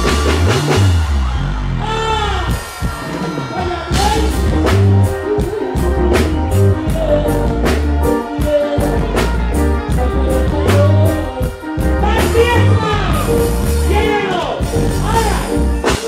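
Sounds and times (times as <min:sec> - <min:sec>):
live reggae band music: 0:00.0 - 0:16.0.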